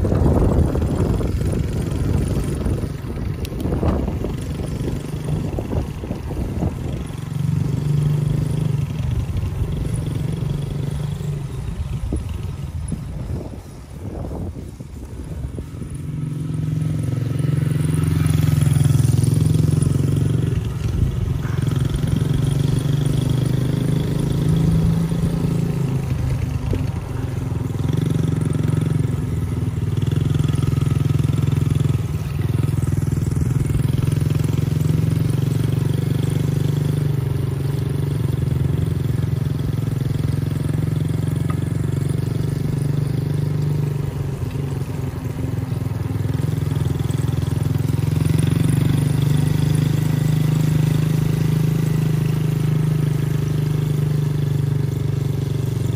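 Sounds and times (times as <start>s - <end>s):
dirt bike engine running: 0.0s - 55.9s.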